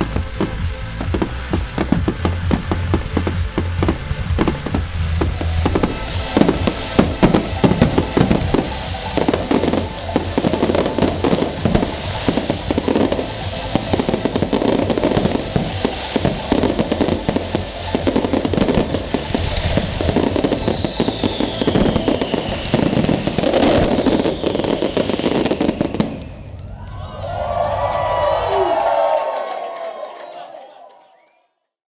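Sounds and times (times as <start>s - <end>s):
music: 0.0s - 26.2s
fireworks bangs and crackles: 0.0s - 27.0s
falling firework whistle: 0.0s - 29.1s.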